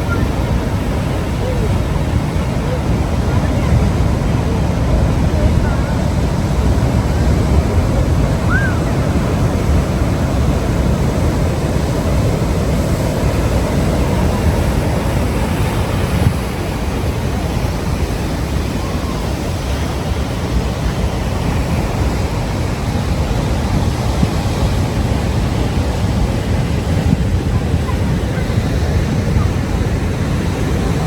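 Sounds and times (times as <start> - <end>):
ocean surf breaking on shore: 0.0 - 31.0.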